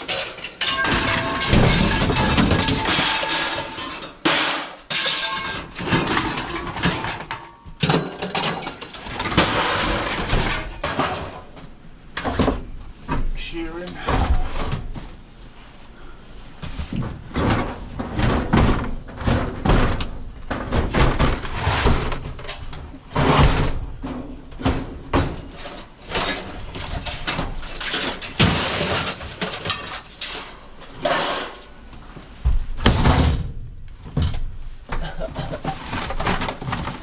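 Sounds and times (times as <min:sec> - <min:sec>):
bangs knocks and clatter: 0:00.0 - 0:13.4, 0:16.6 - 0:37.0.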